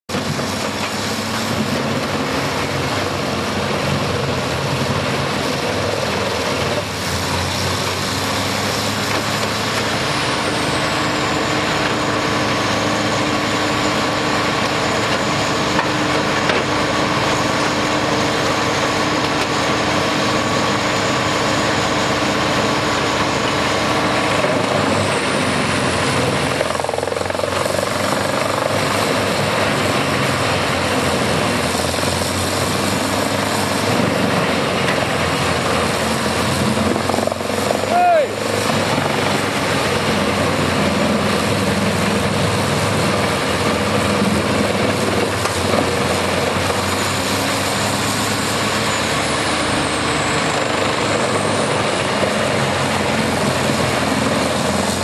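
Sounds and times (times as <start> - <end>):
drum chipper running: 0.1 - 55.0
high mechanical whine: 0.2 - 55.0.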